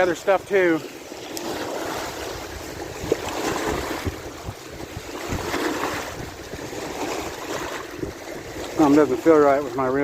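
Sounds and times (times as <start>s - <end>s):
water lapping against shore: 0.0s - 10.0s
wind buffeting microphone: 0.0s - 10.0s.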